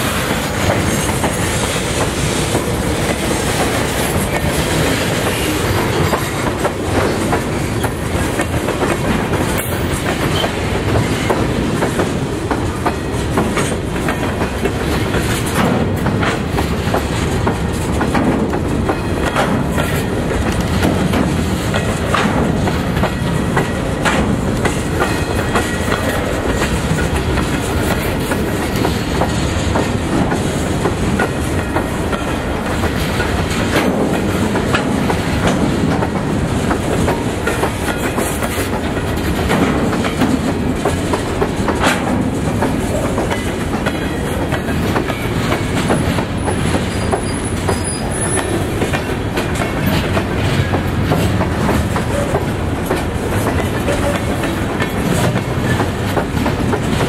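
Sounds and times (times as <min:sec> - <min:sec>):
freight train rumbling past: 0:00.0 - 0:57.0
wheels clacking over rail joints: 0:00.0 - 0:57.0.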